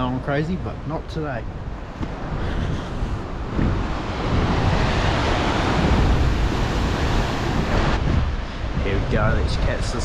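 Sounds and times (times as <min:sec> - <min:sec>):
ocean surf churning in rocks: 0:00.0 - 0:10.0
wind buffeting microphone: 0:00.0 - 0:10.0.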